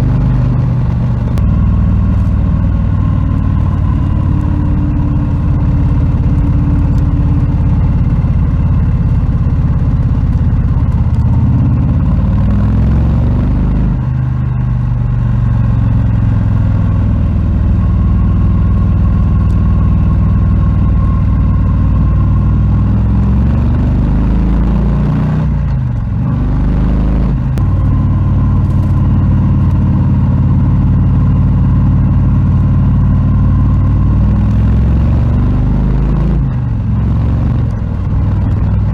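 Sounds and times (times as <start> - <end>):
motorcycle engine running loud: 0.0 - 38.9.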